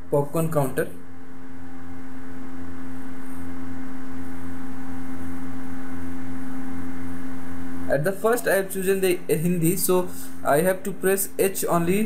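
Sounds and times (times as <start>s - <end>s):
steady hum over low drone: 0.0s - 12.0s.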